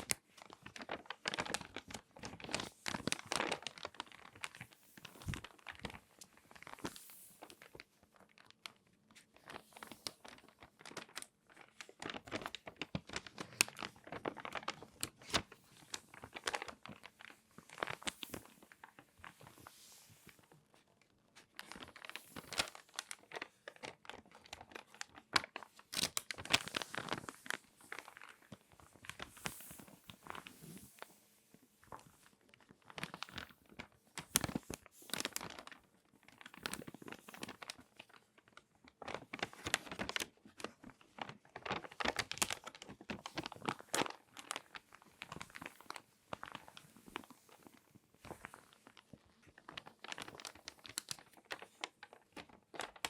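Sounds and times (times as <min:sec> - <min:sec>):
magazine pages crinkling: 0:00.0 - 0:31.2, 0:31.8 - 0:53.0.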